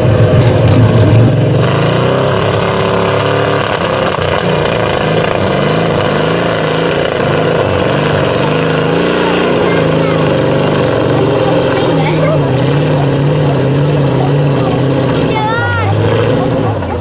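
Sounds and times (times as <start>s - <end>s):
truck engine revving under load: 0.0s - 17.0s.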